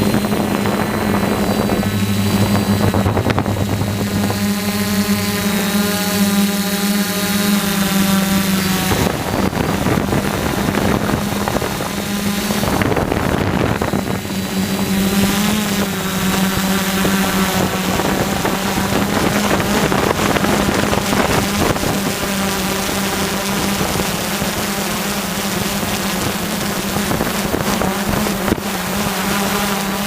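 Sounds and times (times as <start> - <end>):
quadcopter motors buzzing: 0.0 - 30.0
wind buffeting microphone: 0.0 - 30.0.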